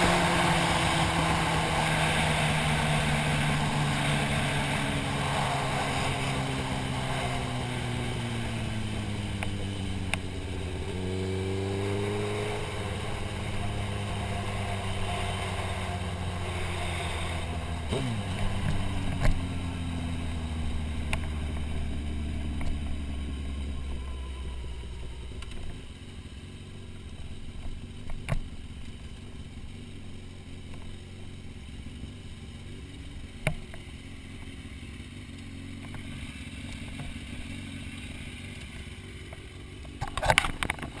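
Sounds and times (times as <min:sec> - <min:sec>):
motorcycle engine running low: 0:00.0 - 0:41.0.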